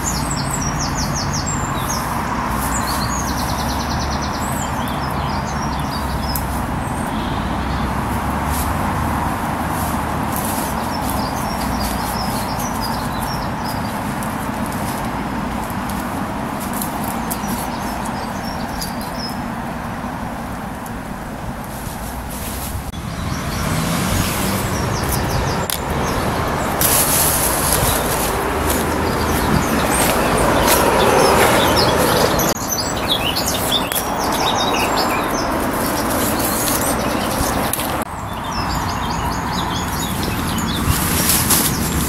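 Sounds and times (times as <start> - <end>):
road traffic rumble: 0.0 - 42.0
small birds chirping: 0.0 - 42.0.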